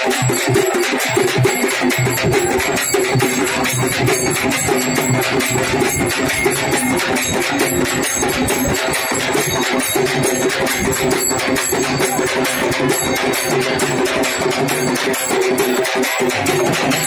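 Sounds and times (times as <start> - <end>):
hand cymbals clashing: 0.0 - 17.0.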